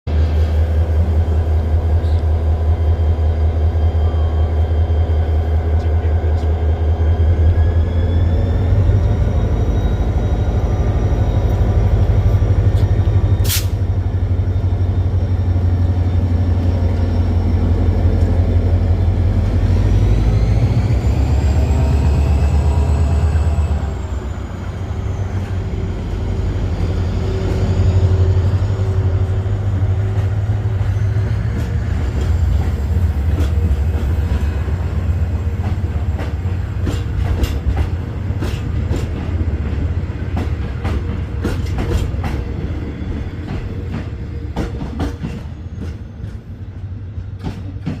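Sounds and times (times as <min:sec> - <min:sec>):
train engine rumble: 0:00.1 - 0:48.0.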